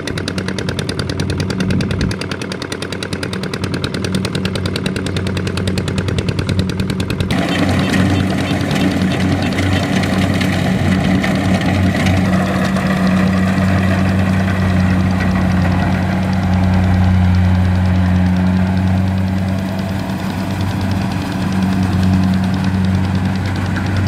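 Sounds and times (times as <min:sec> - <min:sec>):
harvester engine humming: 0:00.0 - 0:24.0.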